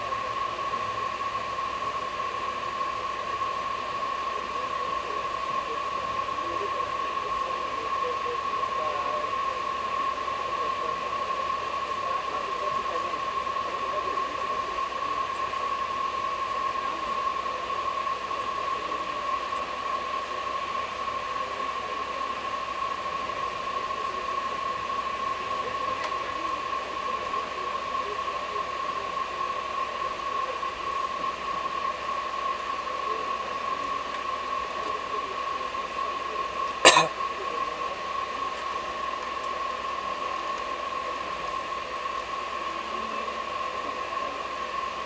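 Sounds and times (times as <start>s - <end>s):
train running hiss: 0.0s - 45.0s.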